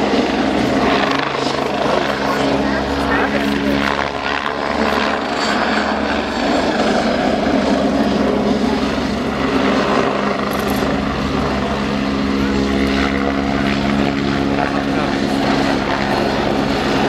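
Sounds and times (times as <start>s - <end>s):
helicopter rotor and turbine drone: 0.0s - 17.0s.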